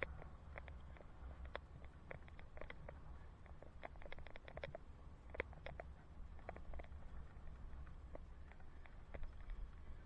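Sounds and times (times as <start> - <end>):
bicycle ticking and rattling: 0.0 - 10.0
low road rumble: 0.0 - 10.0.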